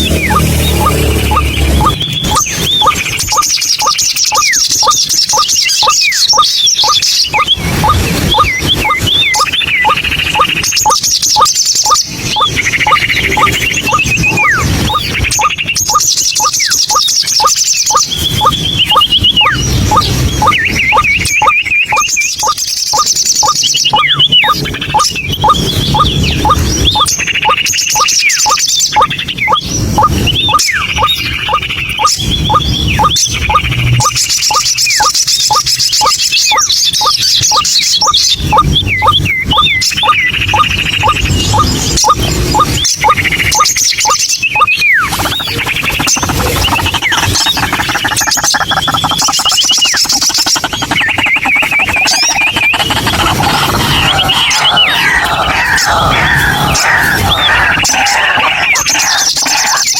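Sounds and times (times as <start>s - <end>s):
waterhen calling: 0.0s - 59.9s
wavering squawking bird notes: 0.0s - 59.9s.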